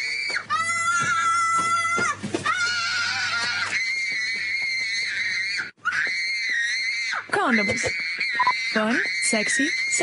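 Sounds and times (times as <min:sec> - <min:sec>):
boy screaming: 0:00.1 - 0:10.0.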